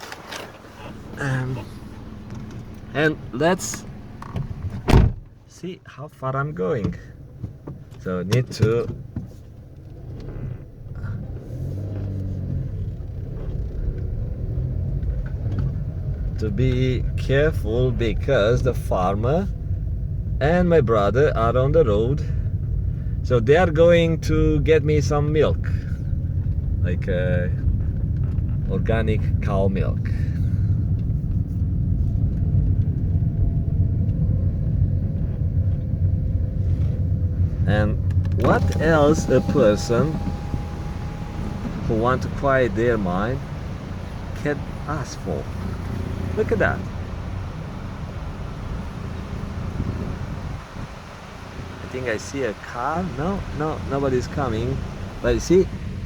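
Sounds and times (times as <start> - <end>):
car engine running: 0.0 - 5.5, 6.6 - 56.0
low road rumble: 0.0 - 56.0.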